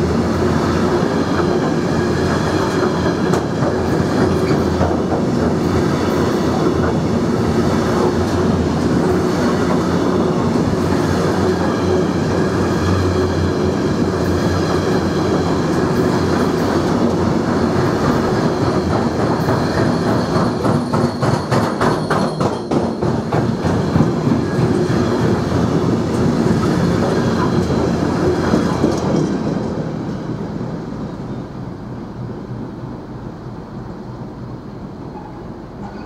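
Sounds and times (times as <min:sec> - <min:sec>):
train wheels clattering over rails: 0:00.4 - 0:29.9.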